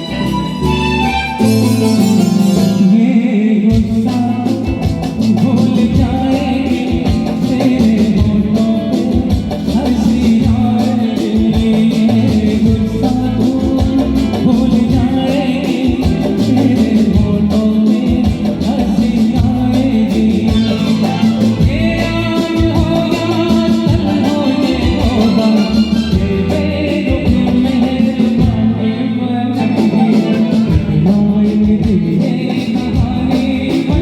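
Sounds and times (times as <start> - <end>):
music with plucked guitar and beat: 0.0 - 34.0.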